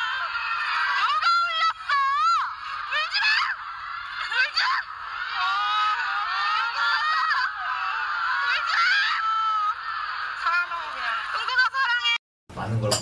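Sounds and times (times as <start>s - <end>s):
crowd of fans screaming: 0.0s - 12.0s.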